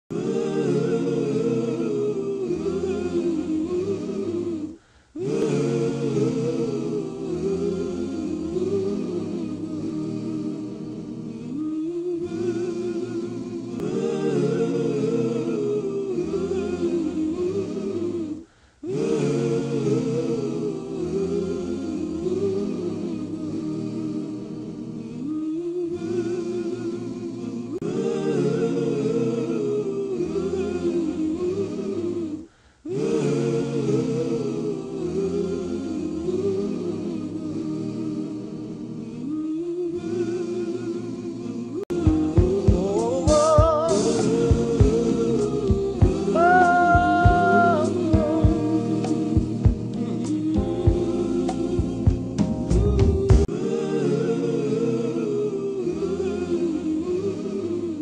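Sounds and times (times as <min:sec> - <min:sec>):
voices singing and humming in harmony: 0:00.1 - 0:58.0.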